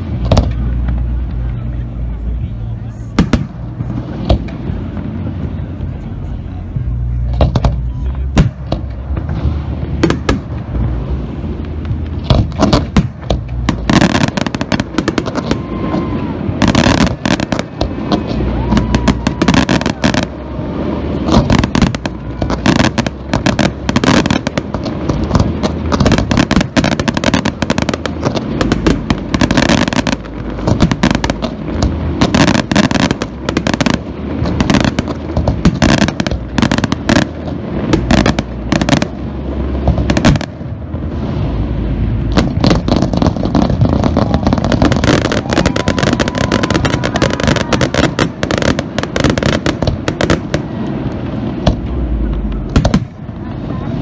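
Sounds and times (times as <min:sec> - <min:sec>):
fireworks bangs: 0:00.0 - 0:54.0
low rumble: 0:00.0 - 0:54.0.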